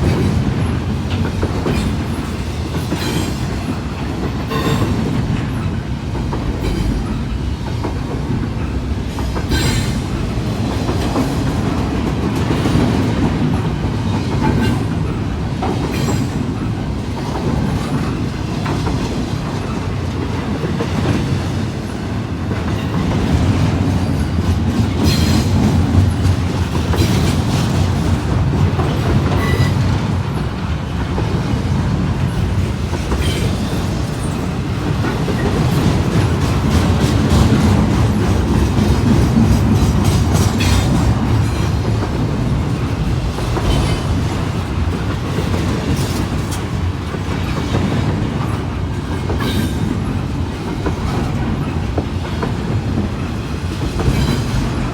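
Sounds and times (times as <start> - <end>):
freight train rumbling past: 0.0 - 54.9
wheels clacking over rail joints: 0.0 - 54.9.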